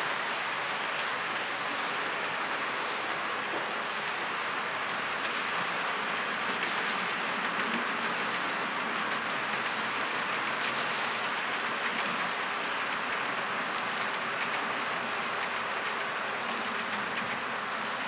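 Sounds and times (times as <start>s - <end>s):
model train wheels rattling on rail: 0.7s - 18.0s
wheels clicking over rail joints: 2.2s - 18.0s.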